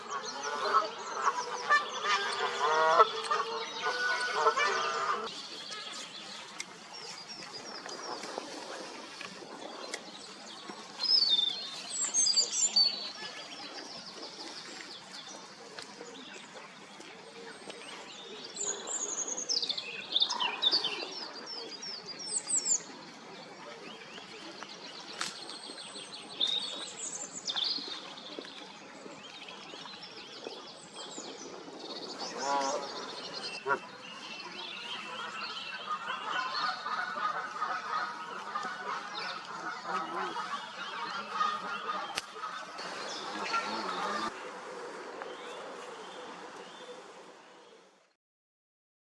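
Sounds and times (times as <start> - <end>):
songbirds chirping and trilling: 0.0 - 48.0.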